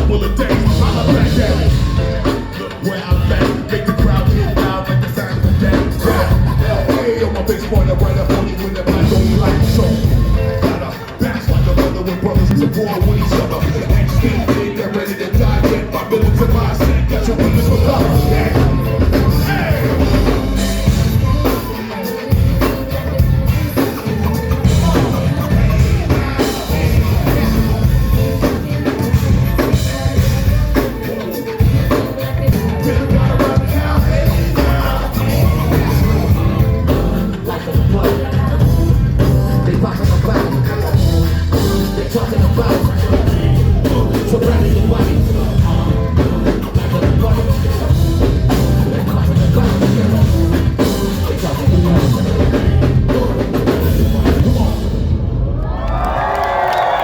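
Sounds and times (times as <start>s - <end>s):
person singing: 0.0s - 55.2s
live hip hop band: 0.0s - 57.0s.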